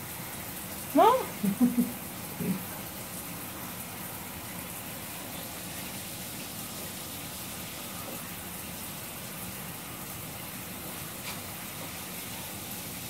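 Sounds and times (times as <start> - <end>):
shower water spraying: 0.0 - 13.0.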